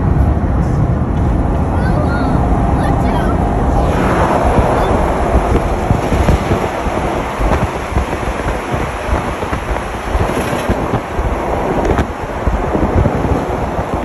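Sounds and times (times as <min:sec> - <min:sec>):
traffic tyre and engine rumble: 0:00.0 - 0:14.0
wind rushing over microphone: 0:00.0 - 0:14.0.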